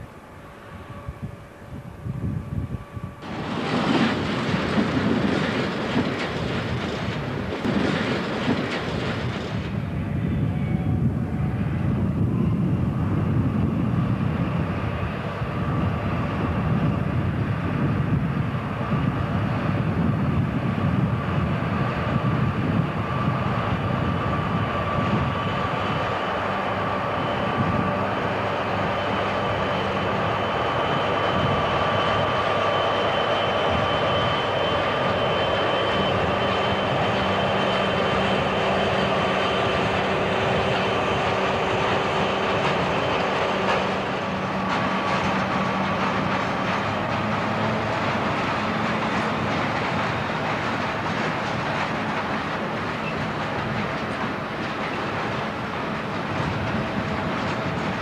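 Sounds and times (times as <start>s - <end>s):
steady high whine: 0.0s - 54.9s
diesel locomotive engines running: 0.0s - 58.0s
rushing noise: 3.0s - 58.0s.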